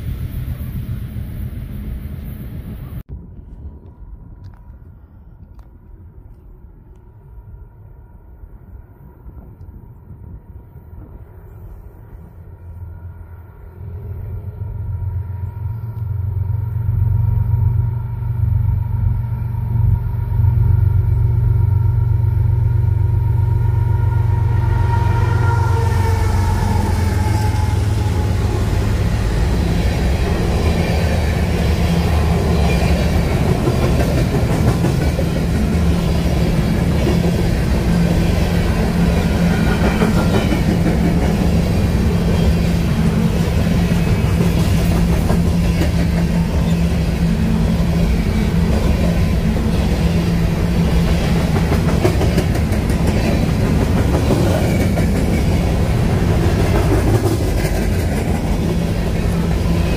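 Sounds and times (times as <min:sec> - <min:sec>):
train wheels rumbling on rail: 0:09.2 - 0:59.9.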